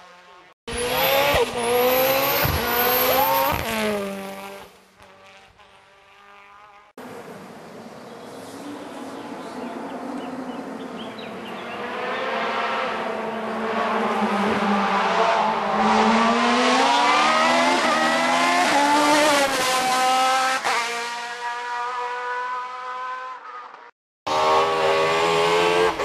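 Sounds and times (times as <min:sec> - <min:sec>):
racing car engine revving: 0:00.0 - 0:04.7, 0:09.2 - 0:26.0.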